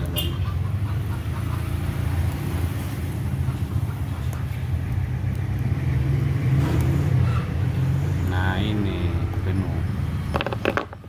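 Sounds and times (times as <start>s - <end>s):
low engine-like hum: 0.0s - 10.5s.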